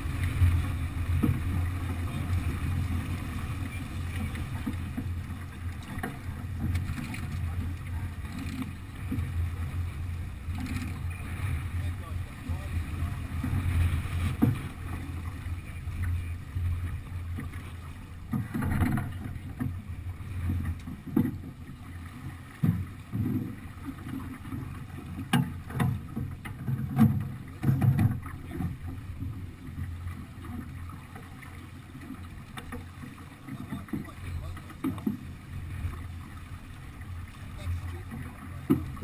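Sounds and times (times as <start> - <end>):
water rushing along hull: 0.0 - 39.0.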